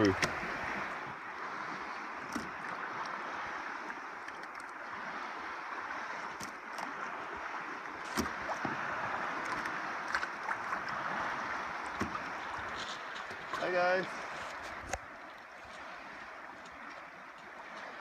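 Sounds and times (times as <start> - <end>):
small waves lapping: 0.0 - 18.0.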